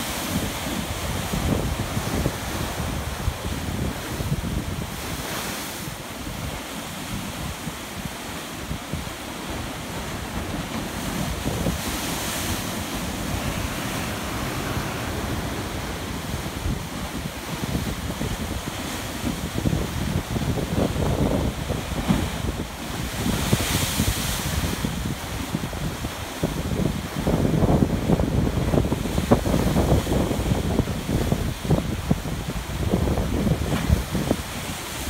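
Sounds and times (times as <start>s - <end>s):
surf breaking on rocks: 0.0s - 35.0s
wind rumbling on microphone: 0.0s - 35.0s.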